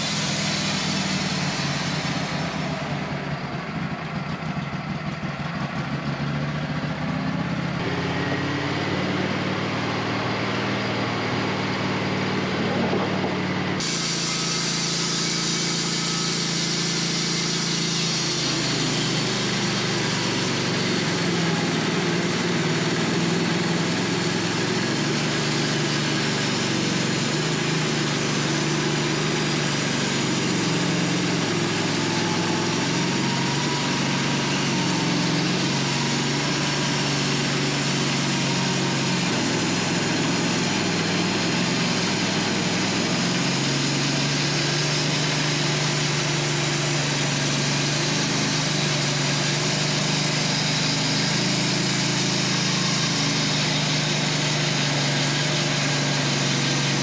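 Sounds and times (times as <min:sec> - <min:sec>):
bandsaw sawing through log: 0:00.0 - 0:03.0, 0:10.9 - 0:57.0.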